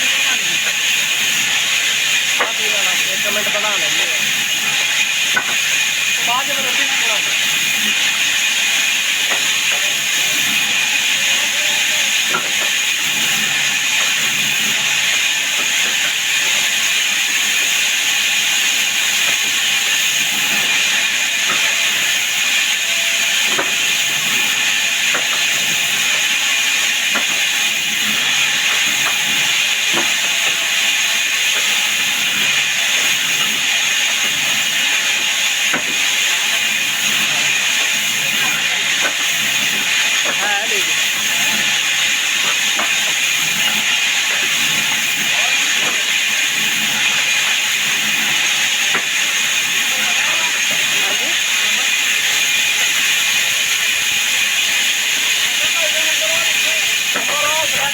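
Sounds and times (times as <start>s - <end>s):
power saw whine: 0.0s - 57.9s.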